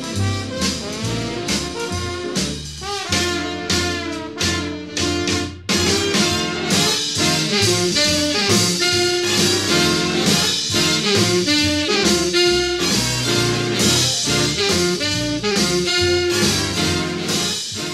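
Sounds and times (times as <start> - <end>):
upbeat swing jazz with horns: 0.0 - 17.9.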